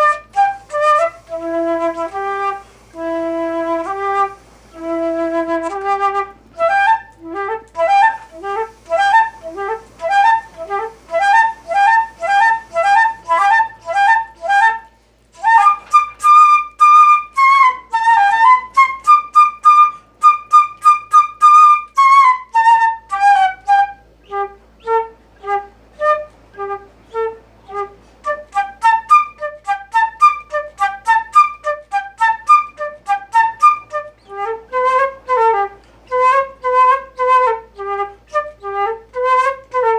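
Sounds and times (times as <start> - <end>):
solo flute melody: 0.0 - 39.9.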